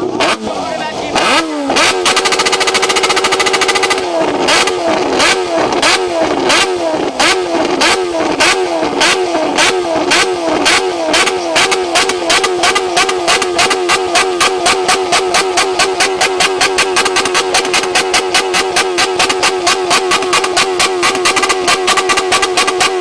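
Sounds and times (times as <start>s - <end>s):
exhaust bangs: 0.0s - 23.0s
motorcycle engine hitting rev limiter: 0.2s - 23.0s.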